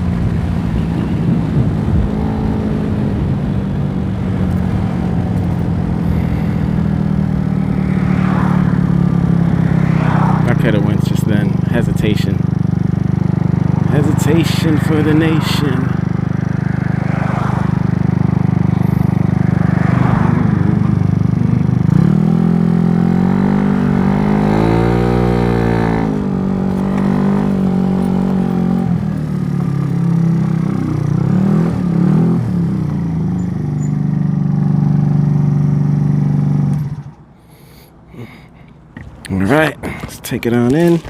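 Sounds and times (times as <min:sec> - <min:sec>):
scooter engine at high revs: 0:00.0 - 0:37.2.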